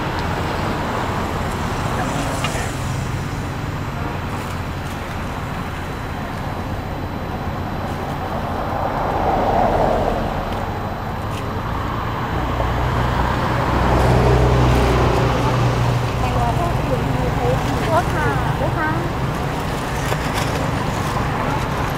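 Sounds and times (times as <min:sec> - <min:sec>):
low engine rumble: 0:00.0 - 0:21.9
road traffic noise: 0:00.0 - 0:21.9.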